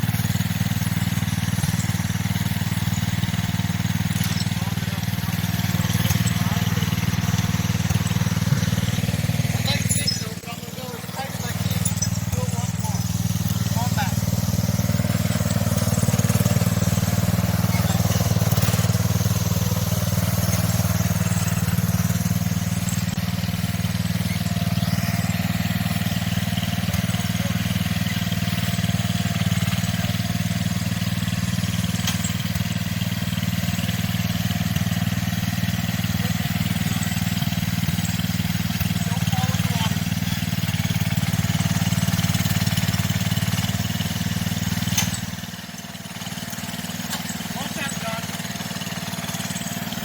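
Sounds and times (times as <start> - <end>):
garden tractor engine running: 0.0 - 50.0.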